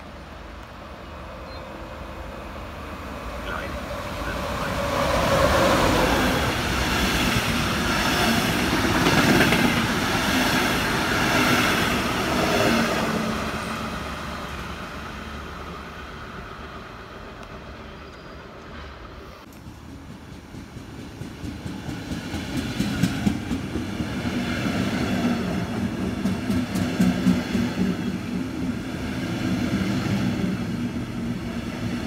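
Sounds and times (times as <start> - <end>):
train running past: 0.0 - 32.0.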